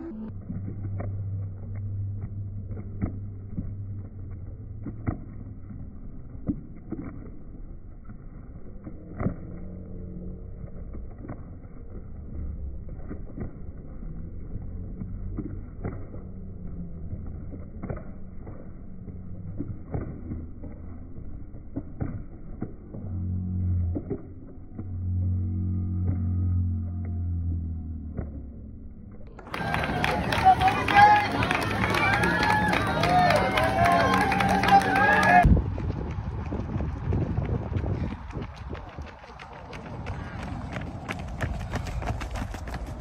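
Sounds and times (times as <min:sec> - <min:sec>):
muffled low rumble: 0:00.0 - 0:30.6, 0:35.3 - 0:43.0
low steady hum: 0:00.0 - 0:43.0
runners' footfalls on road: 0:00.3 - 0:26.2, 0:29.4 - 0:43.0.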